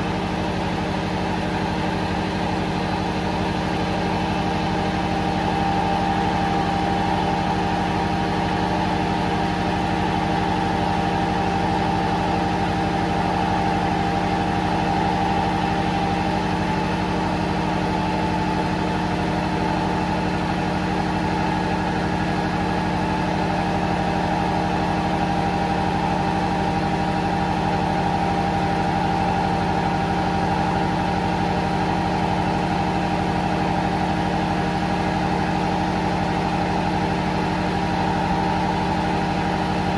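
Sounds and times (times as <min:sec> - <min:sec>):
engine room machinery drone: 0:00.0 - 0:39.9.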